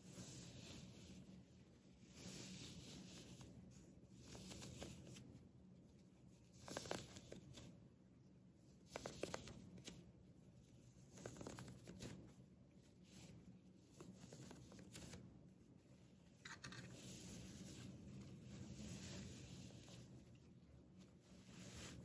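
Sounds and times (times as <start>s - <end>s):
cloth headband rustling: 0.0s - 8.0s, 8.6s - 22.0s.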